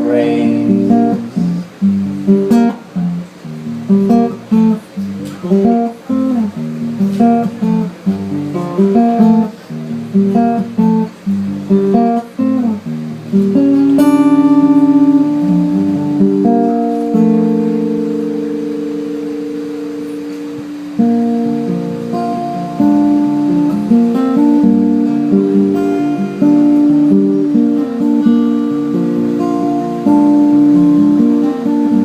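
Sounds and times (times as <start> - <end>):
acoustic guitar arpeggio: 0.0 - 32.0.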